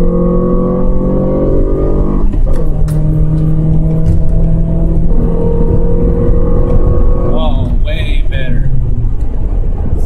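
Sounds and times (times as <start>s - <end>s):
car engine accelerating: 0.0s - 10.0s
road and wind noise: 0.0s - 10.0s.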